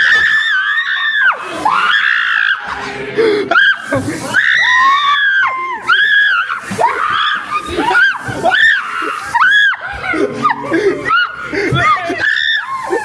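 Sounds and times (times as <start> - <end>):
people screaming: 0.0 - 13.0.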